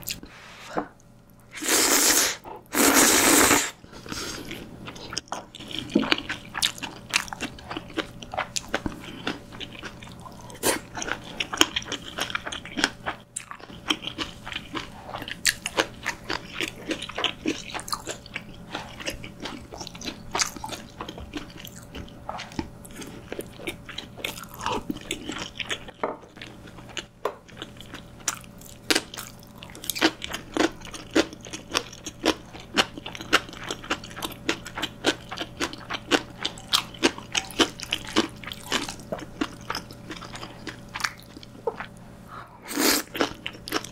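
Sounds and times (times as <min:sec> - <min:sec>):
crunchy chewing: 0:03.9 - 0:43.9.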